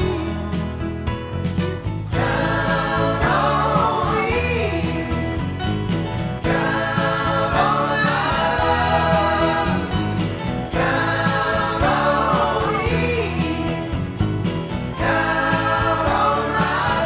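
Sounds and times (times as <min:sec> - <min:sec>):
song with singing: 0:00.0 - 0:00.9, 0:02.1 - 0:05.6, 0:06.4 - 0:14.2, 0:14.9 - 0:17.0.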